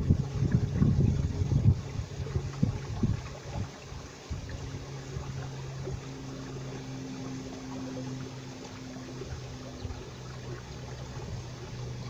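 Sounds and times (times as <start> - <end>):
steady low hum: 0.0 - 12.0
stream water running over rocks: 0.0 - 12.0.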